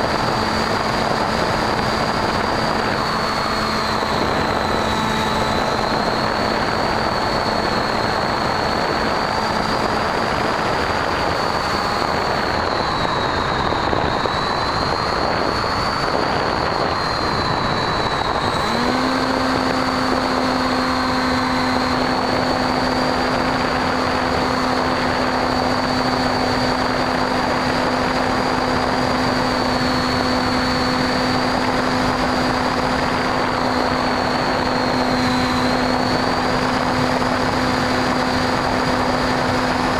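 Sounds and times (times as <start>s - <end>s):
high electric motor whine: 0.0s - 39.9s
low hum: 0.0s - 39.9s
wind and propeller rushing: 0.0s - 39.9s.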